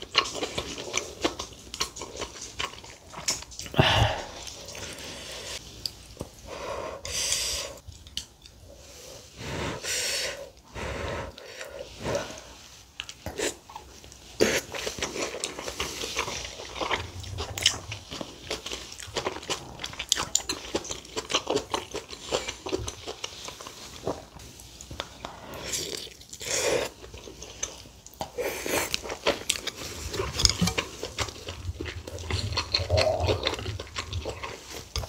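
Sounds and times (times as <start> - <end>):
wet chewing with mouth clicks: 0.0 - 9.0, 10.5 - 35.0.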